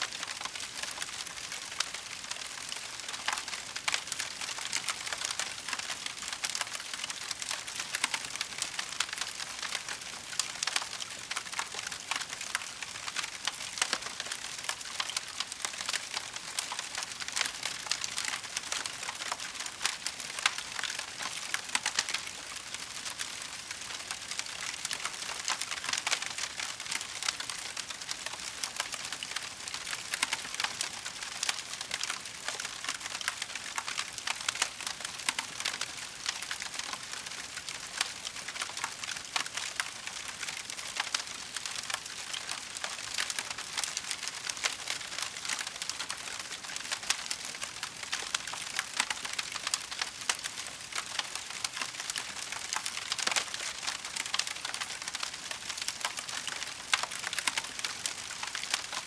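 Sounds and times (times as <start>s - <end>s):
wood fire crackling: 0.2s - 59.0s.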